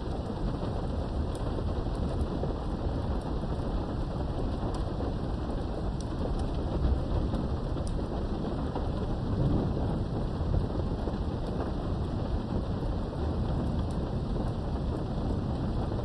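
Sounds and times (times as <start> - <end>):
rolling thunder rumble: 0.0 - 16.0
steady rain: 0.0 - 16.0.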